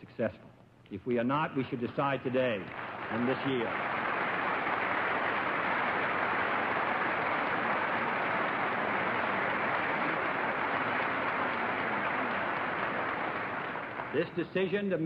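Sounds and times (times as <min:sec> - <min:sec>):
audience applauding: 0:02.3 - 0:14.7.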